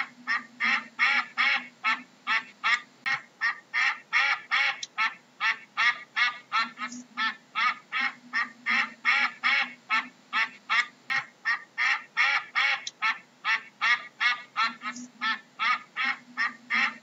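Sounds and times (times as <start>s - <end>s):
duck quacking: 0.0s - 17.0s.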